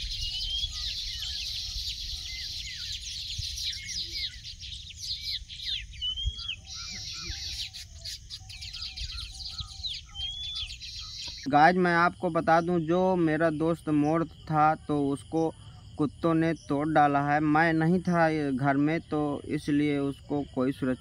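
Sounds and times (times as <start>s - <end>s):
birds chirping and twittering: 0.0s - 21.0s.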